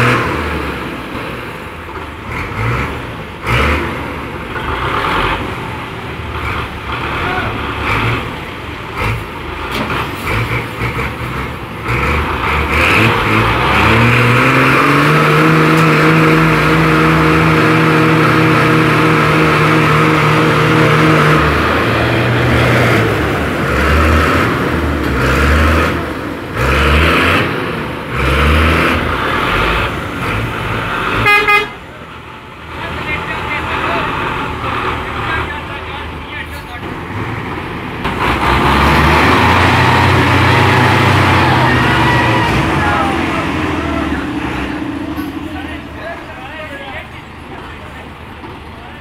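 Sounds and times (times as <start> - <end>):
tractor diesel engine revving: 0.0 - 49.0.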